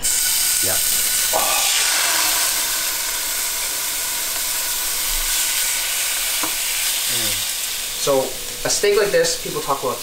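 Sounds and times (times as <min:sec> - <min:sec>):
steaks sizzling in a frying pan: 0:00.0 - 0:10.0.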